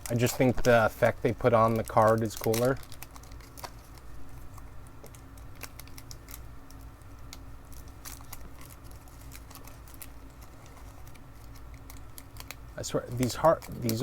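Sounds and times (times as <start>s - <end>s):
faint steady hum: 0.0s - 14.0s
soft wrapper rustles: 0.0s - 14.0s.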